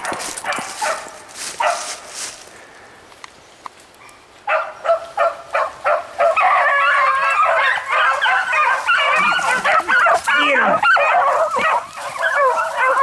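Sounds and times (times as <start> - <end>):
dogs barking: 0.0 - 2.1, 4.0 - 13.0
hunting dogs baying: 0.0 - 2.1, 4.0 - 13.0.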